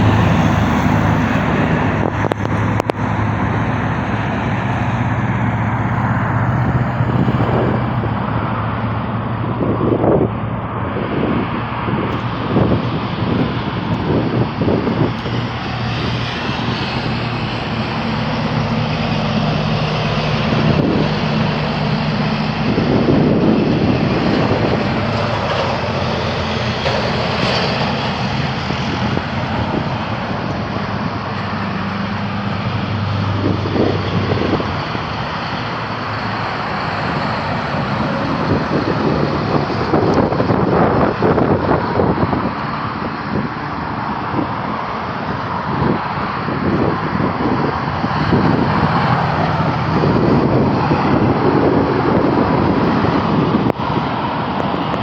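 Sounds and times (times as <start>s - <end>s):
truck diesel engines droning: 0.0s - 55.0s
tyre and road noise: 0.0s - 55.0s.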